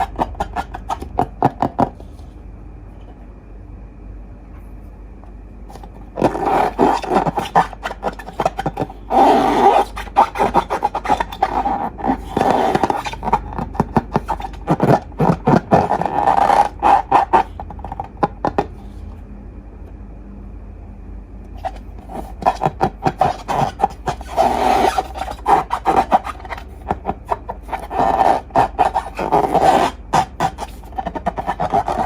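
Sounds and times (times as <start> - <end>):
slime squishing and rubbing: 0.0 - 2.3, 5.7 - 19.1, 21.6 - 32.0.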